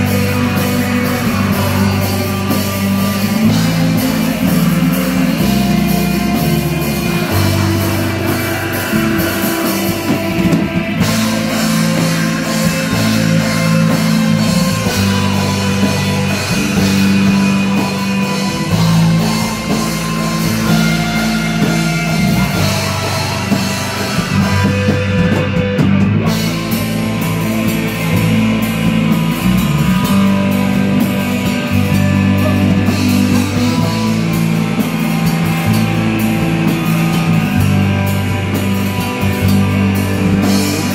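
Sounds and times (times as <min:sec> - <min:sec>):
bass guitar: 0:00.0 - 0:40.9
distorted electric guitars: 0:00.0 - 0:40.9
drum kit: 0:00.0 - 0:40.9.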